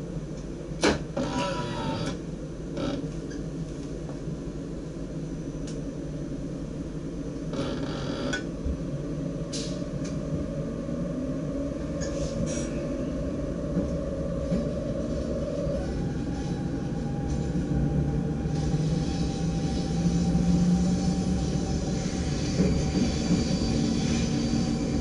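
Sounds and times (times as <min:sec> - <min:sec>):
electric train low rumble: 0:00.0 - 0:25.0.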